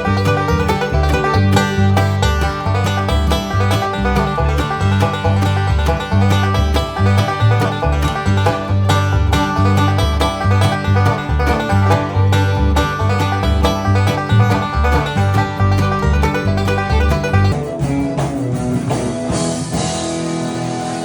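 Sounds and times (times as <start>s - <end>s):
twangy plucked strings: 0.0s - 20.2s
bass line: 0.0s - 21.0s.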